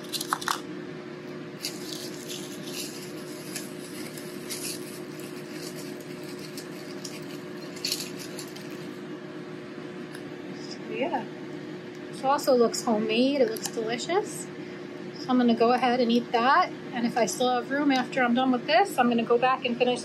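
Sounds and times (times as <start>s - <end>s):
room hum with constant tone: 0.0s - 20.0s.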